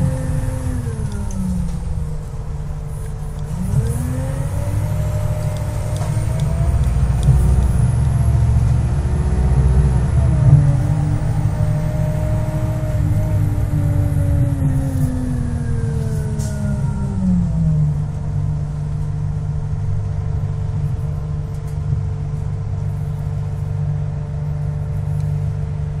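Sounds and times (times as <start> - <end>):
bus diesel engine under load: 0.0 - 26.0.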